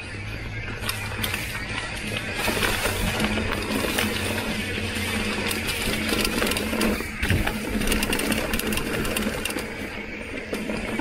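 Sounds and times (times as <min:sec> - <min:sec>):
bicycle freehub ratcheting buzz: 0:00.8 - 0:11.0.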